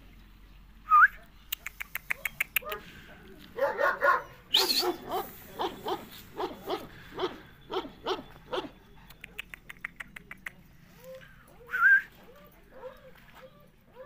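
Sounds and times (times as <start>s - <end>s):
dogs barking: 1.2s - 9.9s, 11.5s - 14.0s.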